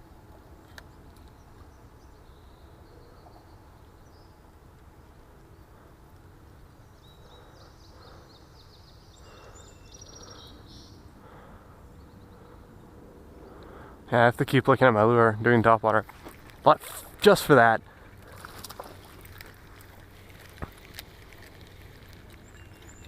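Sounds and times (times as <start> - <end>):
low outdoor background noise: 0.0 - 23.0
birds twittering: 0.8 - 23.0.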